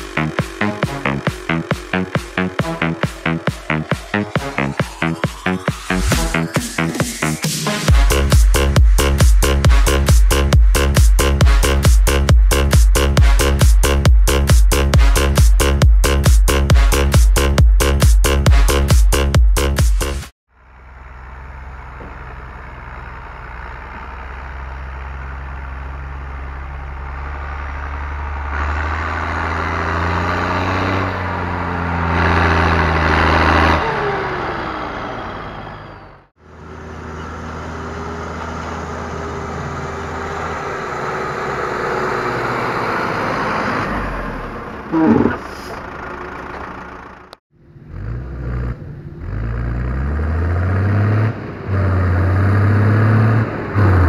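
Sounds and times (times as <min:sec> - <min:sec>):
diesel tractor engine revving: 0:00.0 - 0:54.0.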